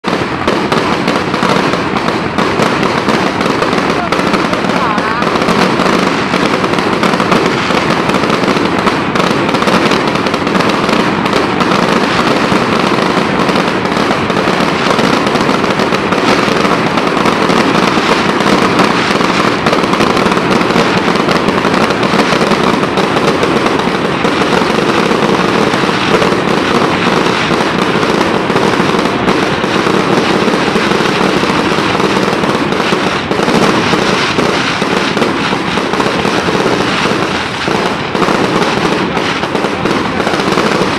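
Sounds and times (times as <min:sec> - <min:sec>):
fireworks crackling bangs: 0:00.0 - 0:40.9.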